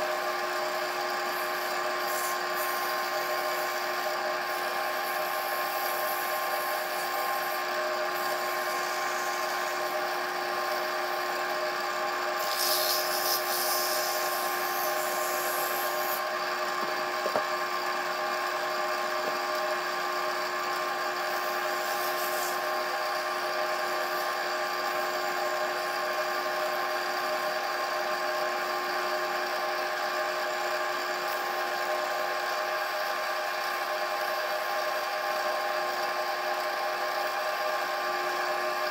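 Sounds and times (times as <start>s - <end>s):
wood lathe motor humming: 0.0s - 38.9s.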